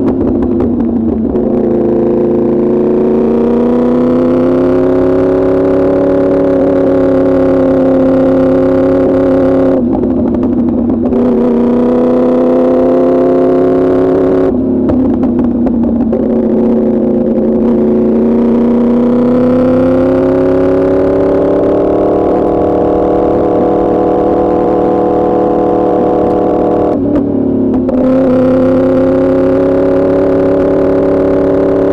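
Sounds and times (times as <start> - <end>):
motorcycle engine while riding: 0.0 - 31.9.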